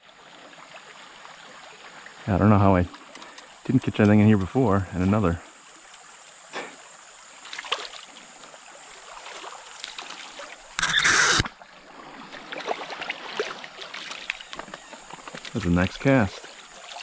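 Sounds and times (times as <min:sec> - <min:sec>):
creek trickling over rocks: 0:00.0 - 0:17.0
small water splashes: 0:00.0 - 0:17.0.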